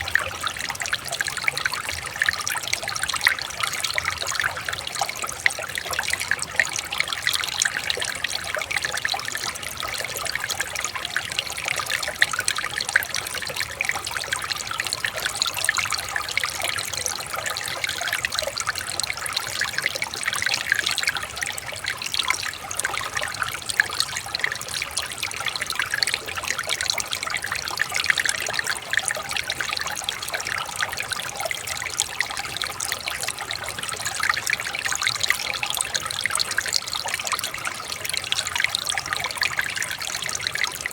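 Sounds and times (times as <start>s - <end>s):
water babbling over stones: 0.0s - 40.9s.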